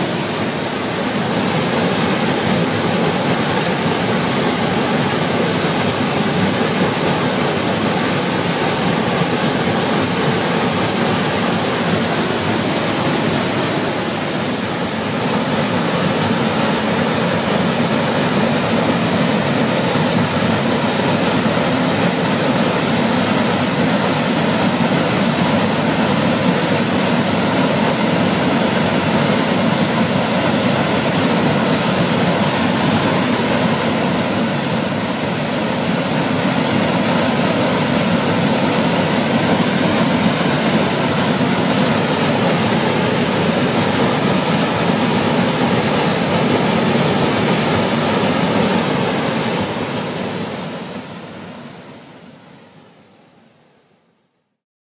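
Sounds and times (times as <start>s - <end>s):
waterfall rushing: 0.0s - 52.4s.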